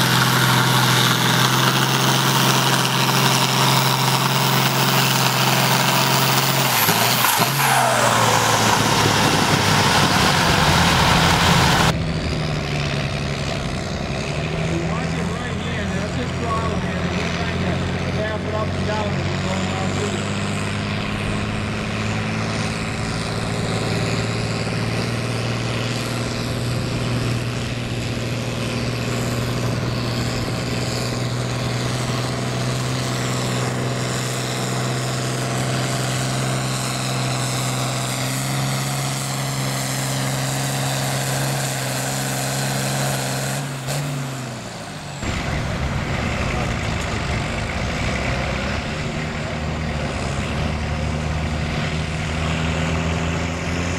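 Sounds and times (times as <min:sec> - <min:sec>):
tractor engine at full throttle: 0:00.0 - 0:53.9.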